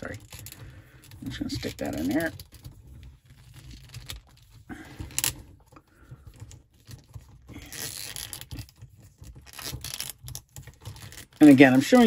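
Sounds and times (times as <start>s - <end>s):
plastic scraping: 0.0s - 12.0s.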